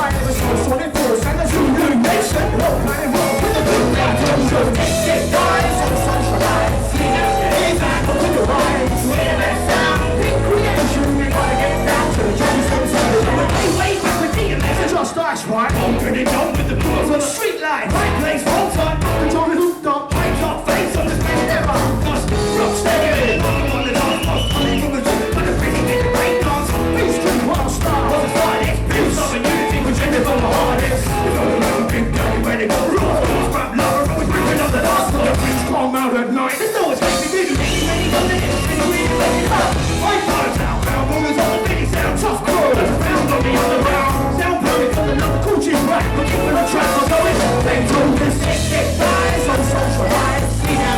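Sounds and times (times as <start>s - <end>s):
live band playing hip-hop: 0.0s - 50.9s
vocals: 0.0s - 50.9s.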